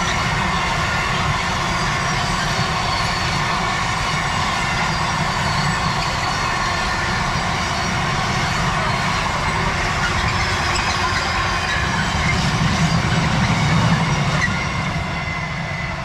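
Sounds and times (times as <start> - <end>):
freight train wagons rumbling past: 0.0 - 16.0.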